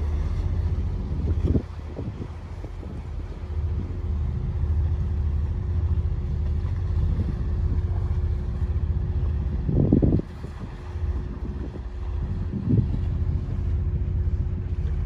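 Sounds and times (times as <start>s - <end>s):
faint engine hum: 0.0s - 15.0s
wind buffeting microphone: 0.0s - 15.0s.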